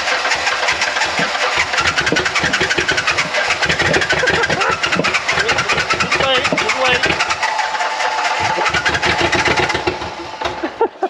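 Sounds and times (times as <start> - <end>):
engine sputtering unevenly: 0.0 - 11.0
truck engine cranking on starter: 0.0 - 11.0.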